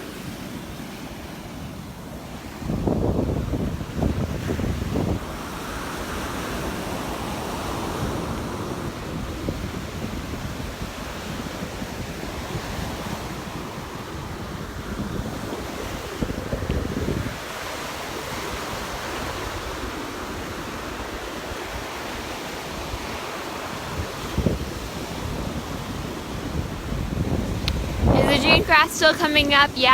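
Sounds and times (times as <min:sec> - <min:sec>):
surf washing onto beach: 0:00.0 - 0:29.9
wind buffeting microphone: 0:00.0 - 0:29.9.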